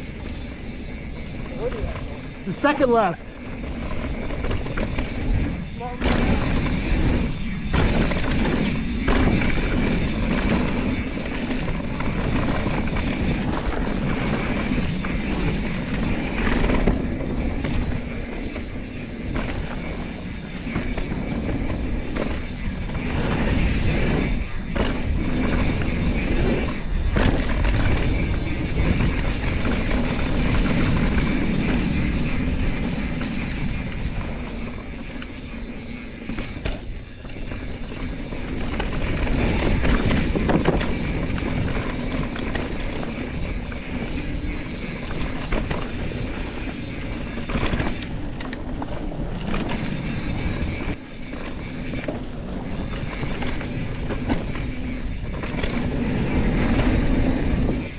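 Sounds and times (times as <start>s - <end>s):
bike rattling over bumps: 0.0s - 57.9s
tyres rumbling on dirt: 0.0s - 57.9s.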